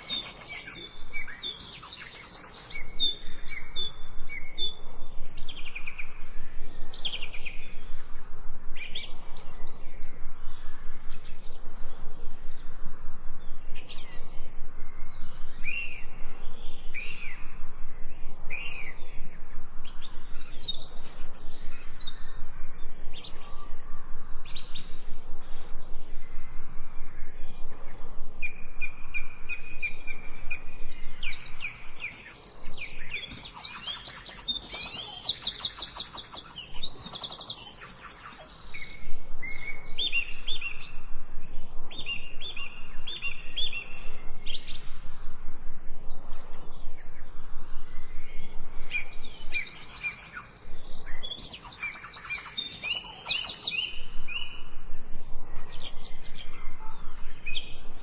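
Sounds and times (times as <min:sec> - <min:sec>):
bird singing repeated notes: 0:00.0 - 0:58.0
songbirds singing and chirping: 0:00.0 - 0:58.0.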